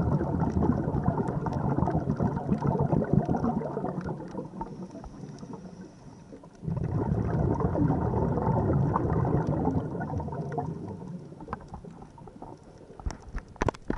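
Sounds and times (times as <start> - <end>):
underwater bubbles rushing: 0.0 - 13.9.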